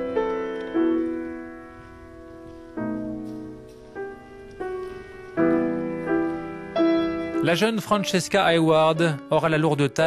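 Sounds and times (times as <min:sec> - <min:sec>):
gentle piano chords: 0:00.0 - 0:10.0.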